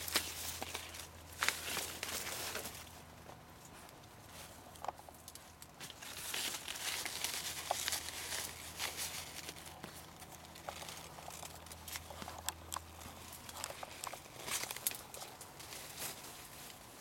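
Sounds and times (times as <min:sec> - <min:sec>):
dry corn leaves rustling: 0:00.0 - 0:03.0, 0:03.6 - 0:17.0.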